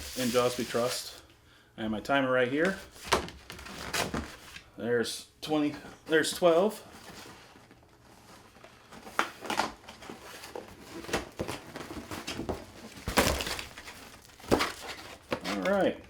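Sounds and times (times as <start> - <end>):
packaging rustling and crinkling: 0.0 - 1.2, 2.7 - 4.6, 6.2 - 16.0.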